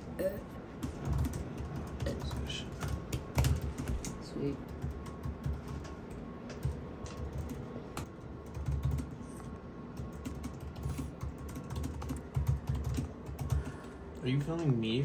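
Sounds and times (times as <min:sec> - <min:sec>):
keyboard typing: 0:00.8 - 0:14.0.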